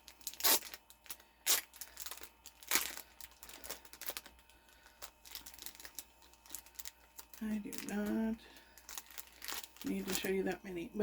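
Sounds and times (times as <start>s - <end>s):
plastic ripping: 0.0s - 10.5s
plastic packaging crinkling: 0.0s - 10.9s.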